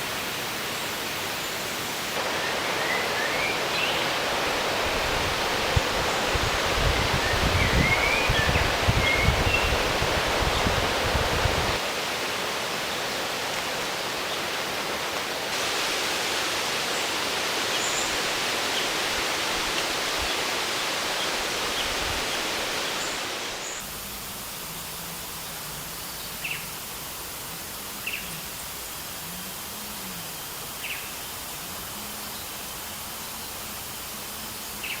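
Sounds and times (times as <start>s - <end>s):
running water: 0.0s - 35.0s.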